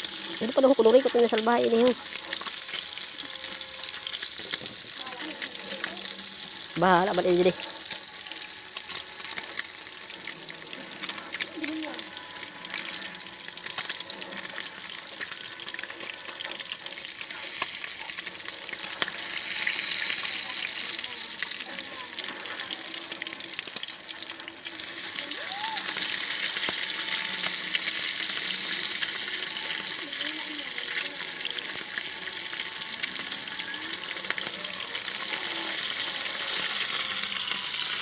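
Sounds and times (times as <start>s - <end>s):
fish sizzling in hot oil: 0.0s - 38.0s.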